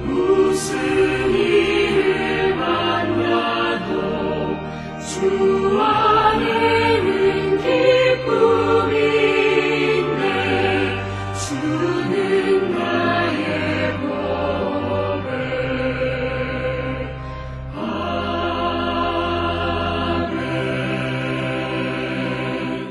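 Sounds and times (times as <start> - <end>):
choir singing a slow hymn: 0.0 - 22.9.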